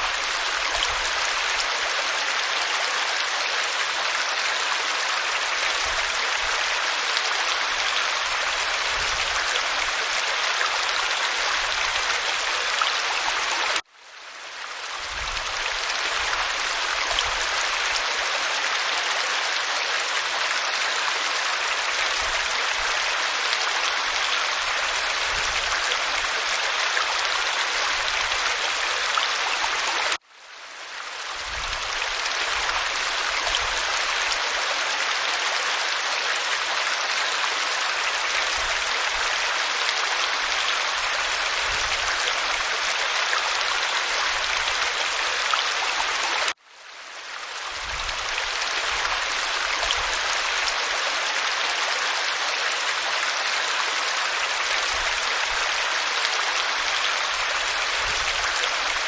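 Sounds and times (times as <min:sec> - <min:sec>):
waterfall rushing over rock: 0:00.0 - 0:13.9, 0:14.9 - 0:30.2, 0:31.2 - 0:46.6, 0:47.5 - 0:59.0.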